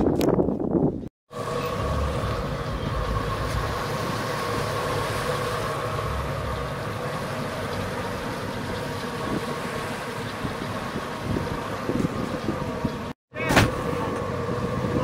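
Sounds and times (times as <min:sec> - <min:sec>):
wind: 0:00.0 - 0:15.0
boat engines rumbling: 0:00.9 - 0:15.0
steady engine whine: 0:01.3 - 0:15.0
water noise: 0:01.3 - 0:15.0.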